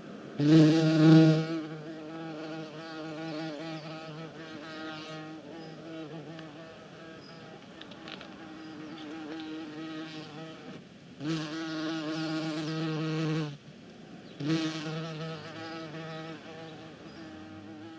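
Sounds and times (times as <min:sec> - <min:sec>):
bee buzzing: 0:00.4 - 0:13.6, 0:14.4 - 0:17.9.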